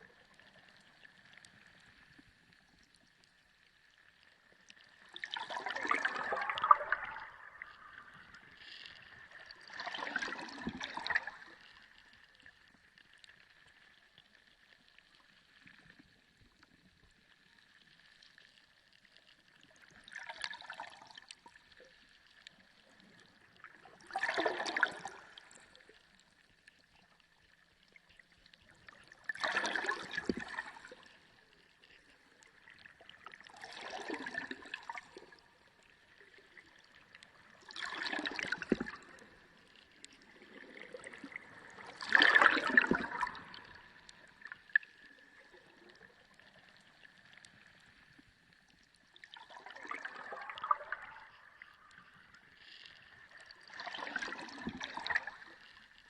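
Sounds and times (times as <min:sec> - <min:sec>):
underwater water surges: 0:00.0 - 0:56.0.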